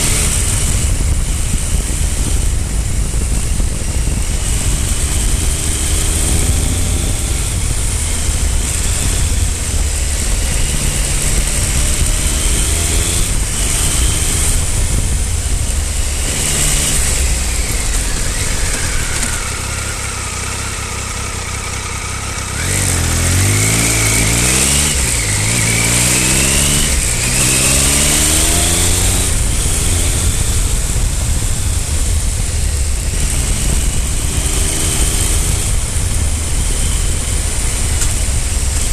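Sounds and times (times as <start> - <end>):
wind rush: 0.0 - 20.0, 22.6 - 38.9
motorcycle engine revving: 0.0 - 38.9.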